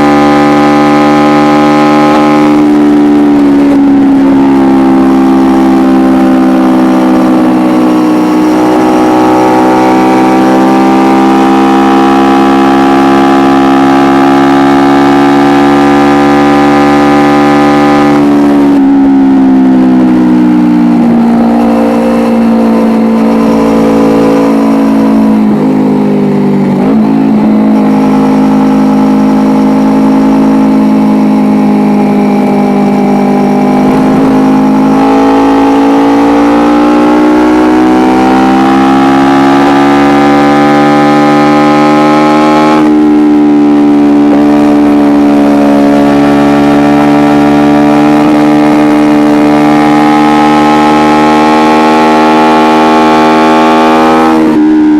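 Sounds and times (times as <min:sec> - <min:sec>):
motorcycle engine at high revs: 0:00.0 - 0:54.9.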